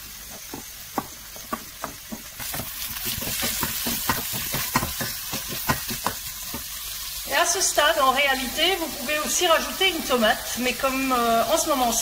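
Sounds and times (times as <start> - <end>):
vegetables sizzling in fat: 0.0 - 12.0.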